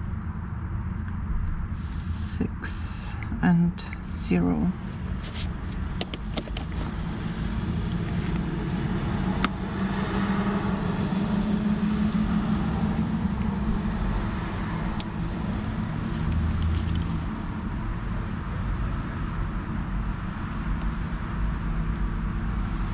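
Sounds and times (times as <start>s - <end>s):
road traffic passing: 0.0s - 22.9s.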